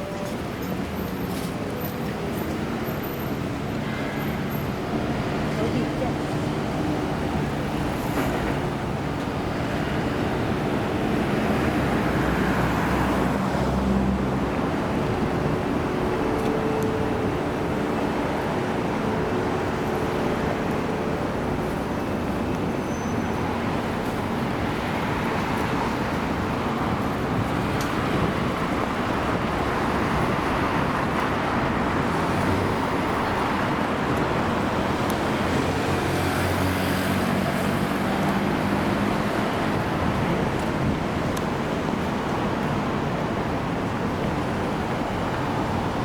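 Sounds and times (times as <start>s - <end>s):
city street traffic: 0.0s - 46.0s.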